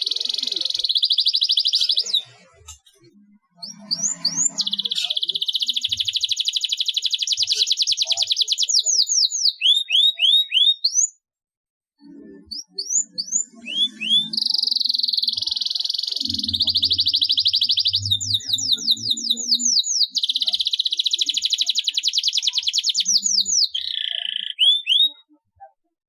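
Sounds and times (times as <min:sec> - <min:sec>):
canary singing: 0:00.0 - 0:11.2, 0:12.0 - 0:25.4.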